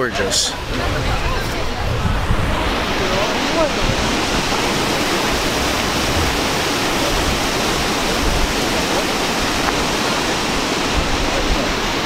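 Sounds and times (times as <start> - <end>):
river water over rapids: 0.0 - 12.0.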